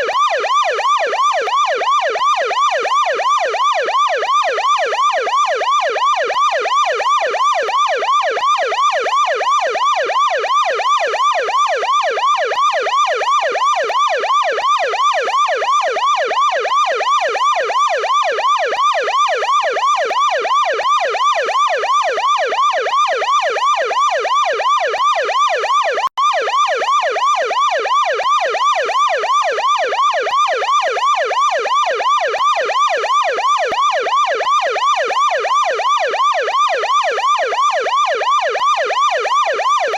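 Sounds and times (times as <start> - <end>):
police siren yelp: 0.0 - 39.9.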